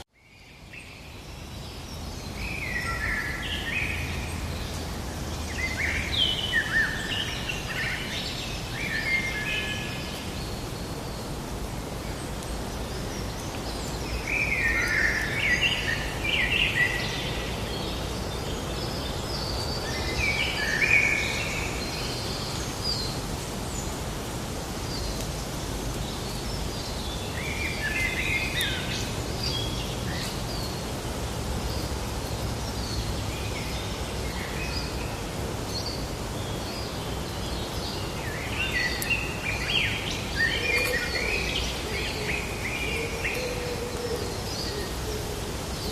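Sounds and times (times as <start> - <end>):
low background noise: 0.0 - 45.9
songbirds singing: 0.0 - 45.9.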